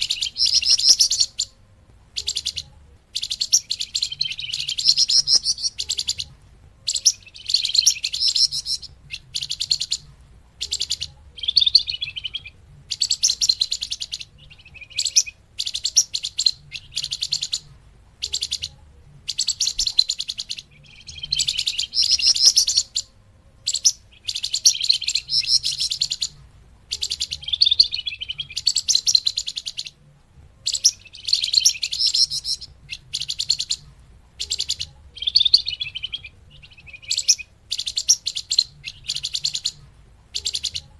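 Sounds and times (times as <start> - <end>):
bird chattering trills: 0.0 - 1.6, 2.2 - 6.3, 6.9 - 23.1, 23.7 - 30.0, 30.6 - 33.8, 34.4 - 40.9.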